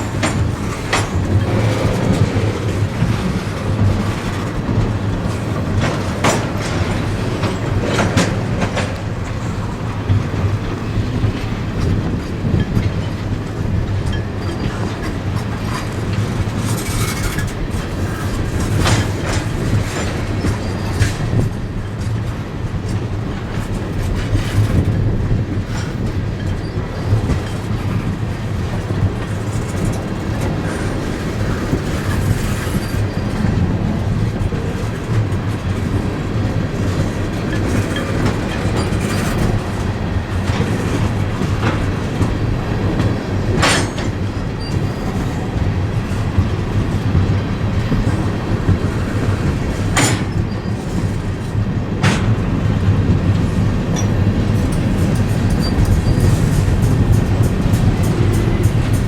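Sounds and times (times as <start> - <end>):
freight train rumbling: 0.0 - 59.0
wheels clicking over rail joints: 0.0 - 59.0.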